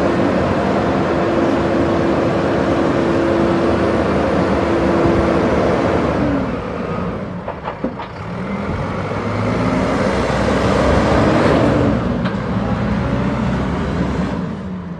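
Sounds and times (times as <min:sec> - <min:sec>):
diesel engine revving: 0:00.0 - 0:14.9.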